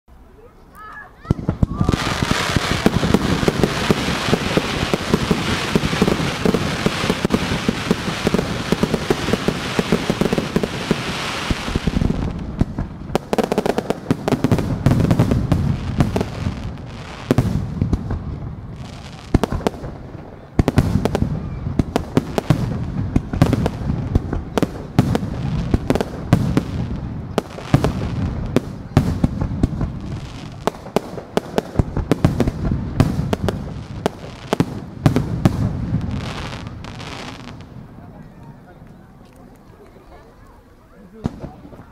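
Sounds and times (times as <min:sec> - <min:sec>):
fireworks crackling hiss: 0:00.3 - 0:41.9
fireworks sharp bangs: 0:01.2 - 0:38.0, 0:41.1 - 0:41.9.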